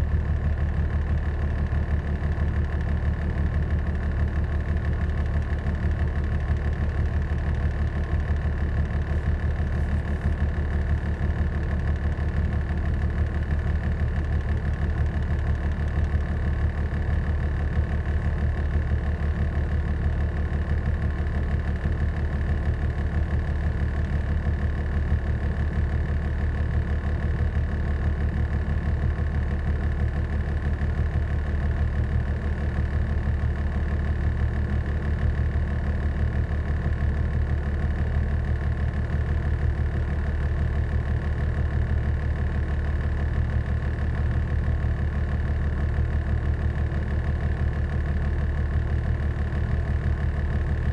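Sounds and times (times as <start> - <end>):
diesel engine rumble: 0.0 - 50.9.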